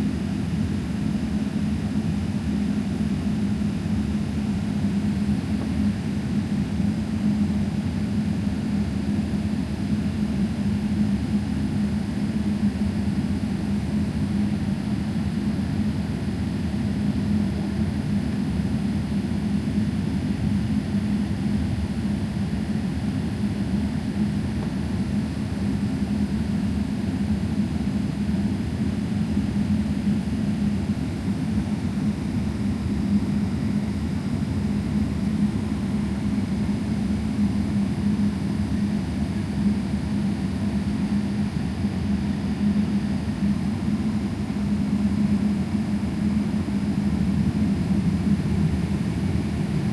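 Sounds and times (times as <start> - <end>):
constant low hum: 0.0 - 49.9
jet engine drone in cabin: 0.0 - 49.9.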